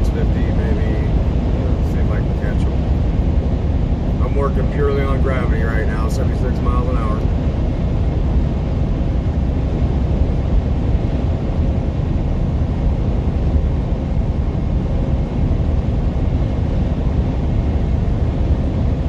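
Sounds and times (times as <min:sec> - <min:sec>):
truck cab road rumble: 0:00.0 - 0:19.0.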